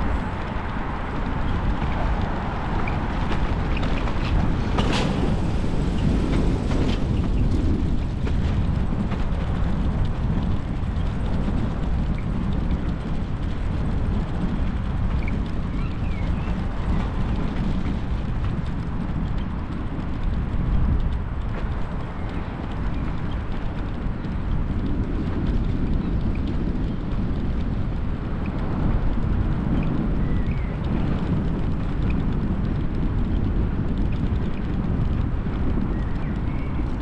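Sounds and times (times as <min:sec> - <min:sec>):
bicycle tyres rolling on tarmac: 0:00.0 - 0:37.0
wind on microphone: 0:00.0 - 0:37.0.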